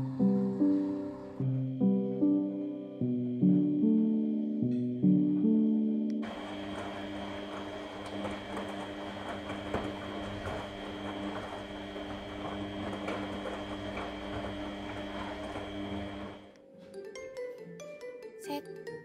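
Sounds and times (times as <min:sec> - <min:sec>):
washing machine motor hum: 0:00.0 - 0:16.6.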